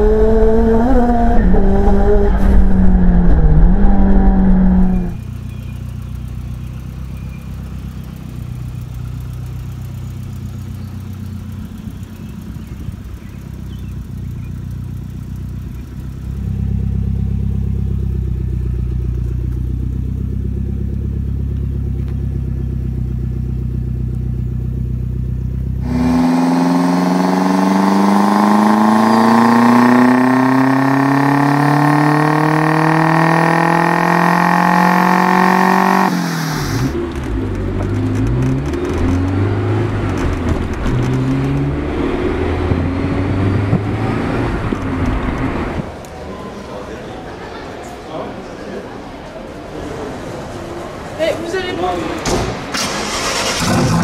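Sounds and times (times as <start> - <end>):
car engine revving: 0.0 - 46.0, 52.7 - 54.0.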